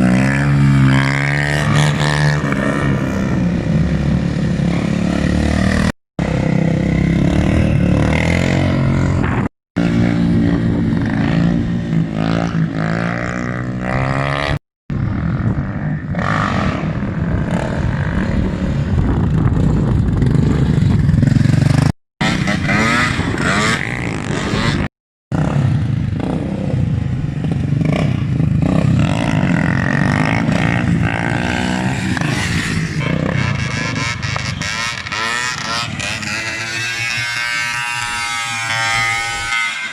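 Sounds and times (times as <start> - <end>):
motorcycle and quad engines revving: 0.0 - 39.9.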